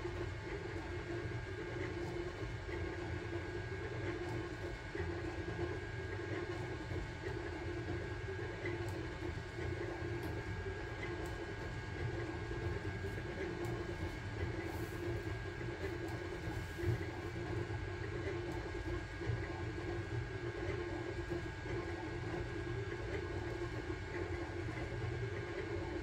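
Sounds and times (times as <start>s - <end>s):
three d printer motors humming: 0.0s - 26.0s.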